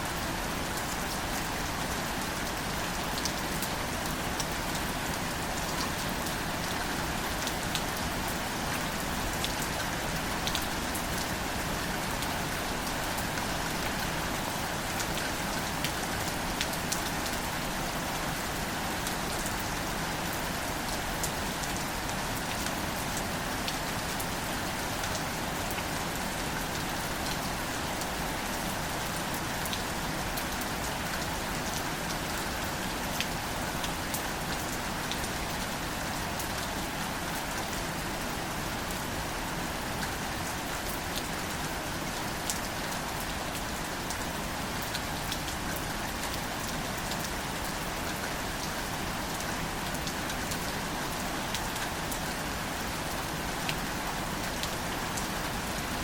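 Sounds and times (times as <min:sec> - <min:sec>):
gentle rain on flowers: 0:00.0 - 0:56.0.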